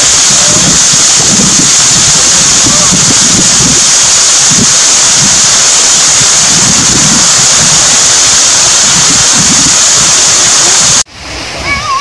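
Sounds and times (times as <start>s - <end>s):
heavy rain: 0.0s - 12.0s
rainwater pouring and splashing: 0.0s - 12.0s.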